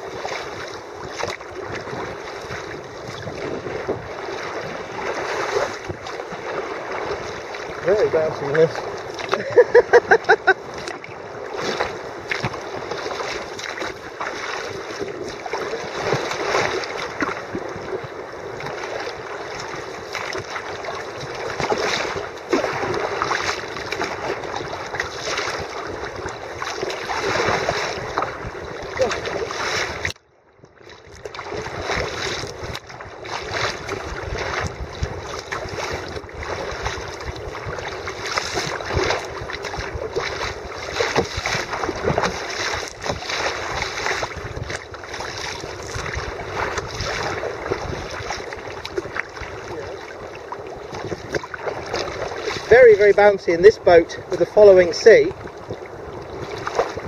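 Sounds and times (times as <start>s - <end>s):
wind on microphone: 0.0s - 30.2s, 31.1s - 57.0s
water splashing against kayak hull: 0.0s - 57.0s.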